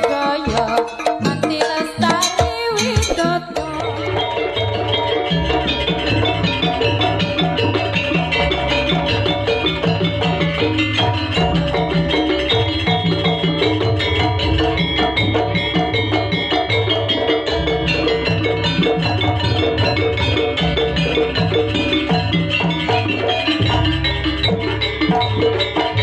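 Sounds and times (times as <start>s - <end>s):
drums beating: 0.0s - 26.0s
tuned metal percussion: 0.0s - 26.0s.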